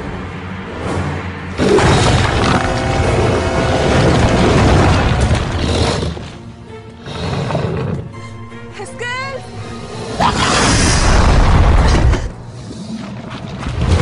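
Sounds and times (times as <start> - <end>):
deep rumbling effects: 0.0 - 7.1, 9.4 - 14.0
dramatic orchestral music: 0.0 - 14.0.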